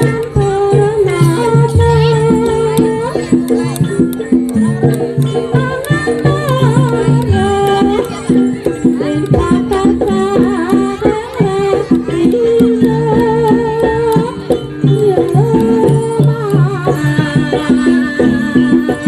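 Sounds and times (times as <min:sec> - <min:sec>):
wavering melody line: 0:00.0 - 0:19.0.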